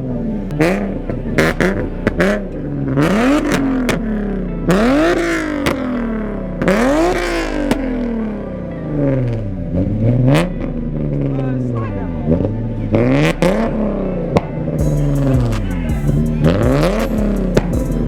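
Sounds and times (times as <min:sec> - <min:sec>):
car engine revving hard: 0:00.5 - 0:18.0.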